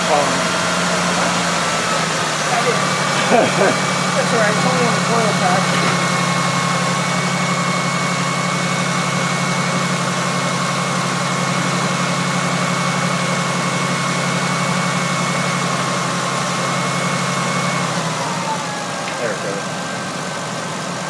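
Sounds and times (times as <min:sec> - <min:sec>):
engine idling: 0:00.0 - 0:21.0
steady high whine: 0:00.0 - 0:21.0.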